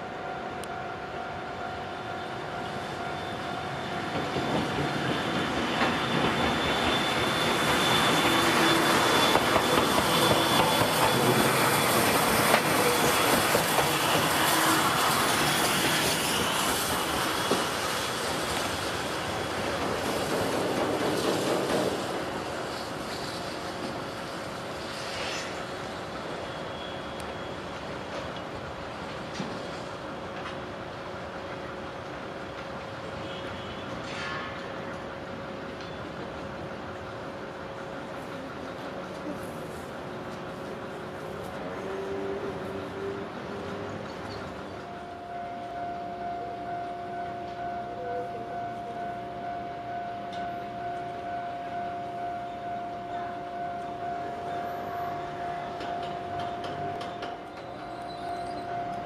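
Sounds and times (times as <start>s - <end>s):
steam locomotive running past: 0.0s - 59.0s.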